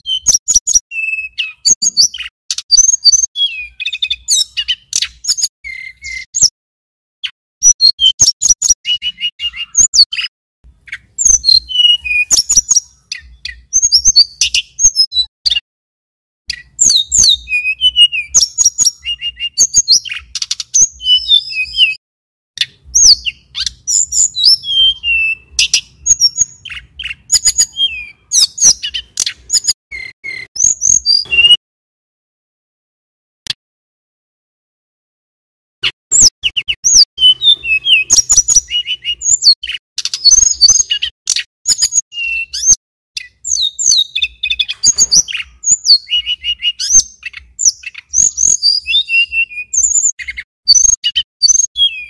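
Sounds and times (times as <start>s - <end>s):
bird singing chirps and trills: 0.0s - 6.6s, 7.2s - 15.6s, 16.5s - 22.0s, 22.6s - 31.6s, 36.1s - 52.0s.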